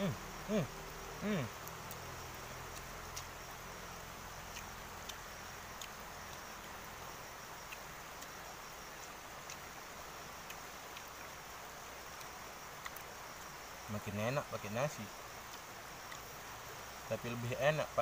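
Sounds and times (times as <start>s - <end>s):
insects: 0.0s - 18.0s.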